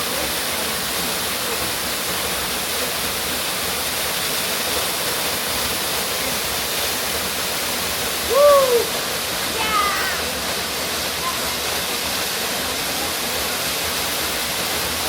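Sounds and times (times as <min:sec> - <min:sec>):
waterfall crashing into pool: 0:00.0 - 0:15.0.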